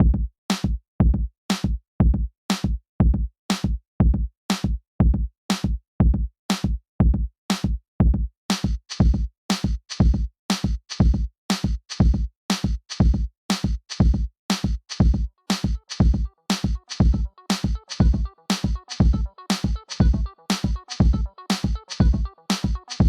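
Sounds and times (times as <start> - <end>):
drum machine beat: 0.0 - 23.0.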